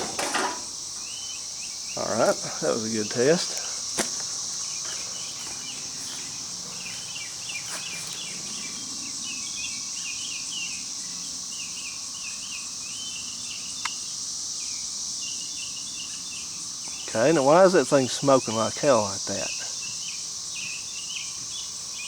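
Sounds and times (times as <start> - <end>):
high-pitched insect chorus: 0.0 - 22.0
short insect chirps: 0.0 - 22.0.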